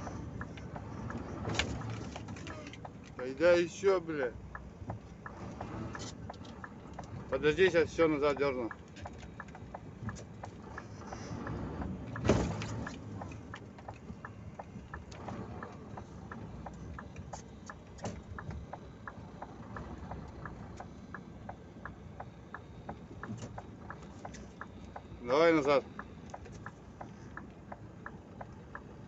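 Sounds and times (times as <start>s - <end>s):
regular sharp clicking: 0.0s - 29.0s
truck engine idling: 0.0s - 29.0s.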